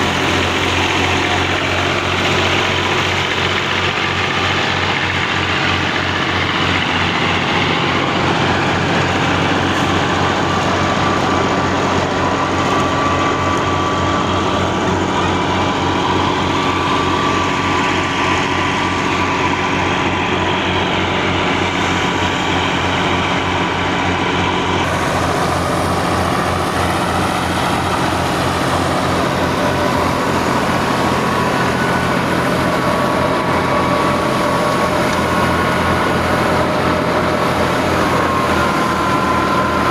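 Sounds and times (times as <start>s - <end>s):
tractor diesel engine under load: 0.0s - 39.9s
wheat thresher running: 0.0s - 39.9s.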